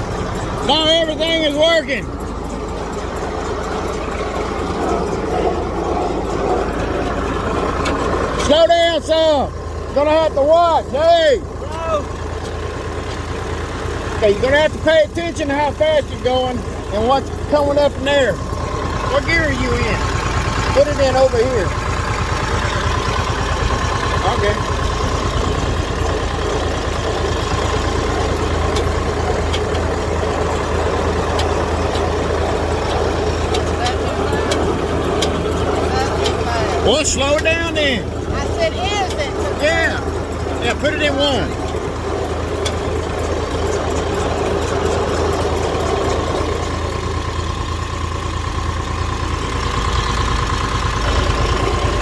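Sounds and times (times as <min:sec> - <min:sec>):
hay baler mechanical din: 0:00.0 - 0:52.0
tractor engine droning: 0:00.0 - 0:52.0.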